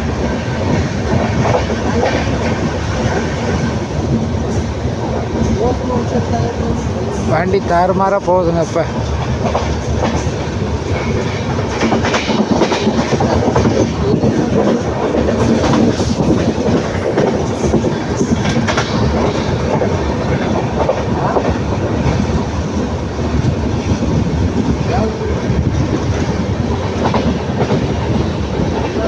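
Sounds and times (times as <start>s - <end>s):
train wheels clattering over rail joints: 0.0s - 7.7s, 8.6s - 29.0s
rumble of train coaches: 0.0s - 29.0s.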